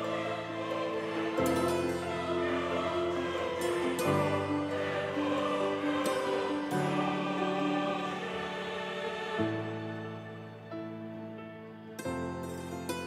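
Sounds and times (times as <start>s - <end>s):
slow sustained chords: 0.0s - 13.0s.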